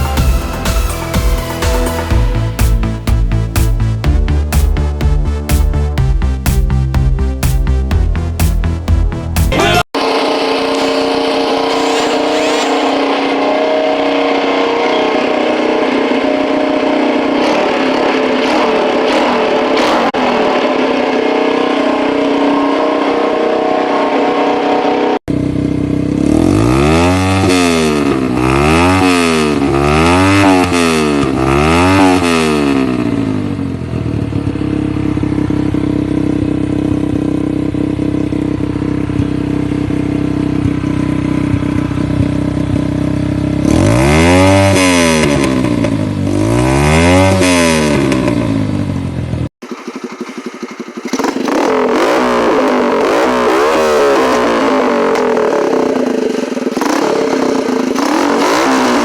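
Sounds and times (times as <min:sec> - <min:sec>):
small engine revving and idling: 0:00.0 - 0:59.0.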